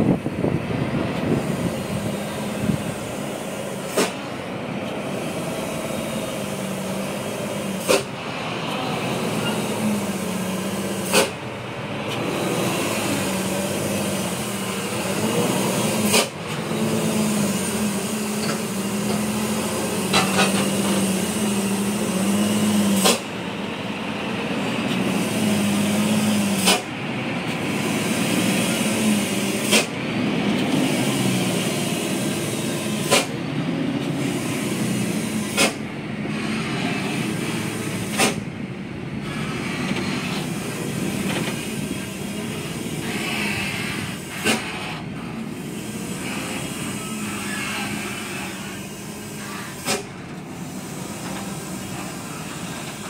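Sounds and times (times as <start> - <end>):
truck diesel engine running: 0.0 - 53.0.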